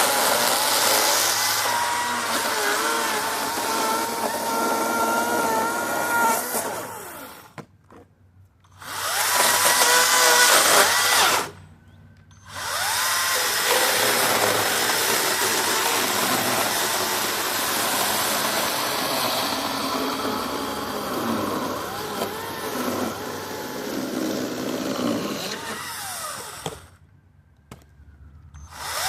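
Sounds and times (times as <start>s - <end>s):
electric chainsaw whining: 0.0s - 7.5s, 8.7s - 11.6s, 12.4s - 27.0s, 28.6s - 29.0s.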